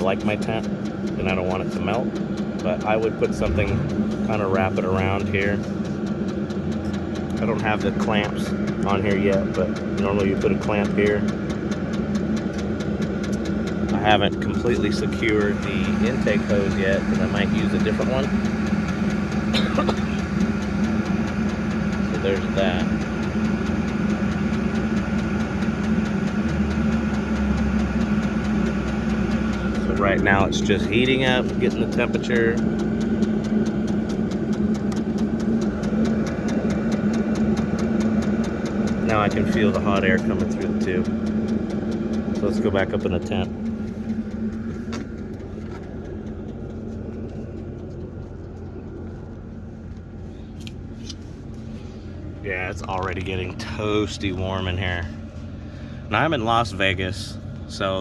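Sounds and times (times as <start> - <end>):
air heater humming: 0.0 - 58.0
deep low hum: 0.0 - 58.0
faint regular ticking: 0.0 - 58.0.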